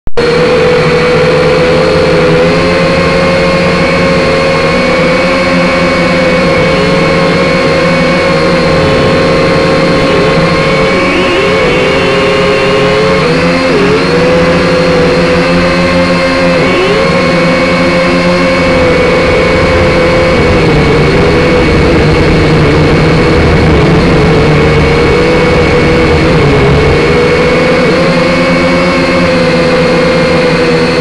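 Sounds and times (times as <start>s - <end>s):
drone motors whining: 0.2s - 31.0s.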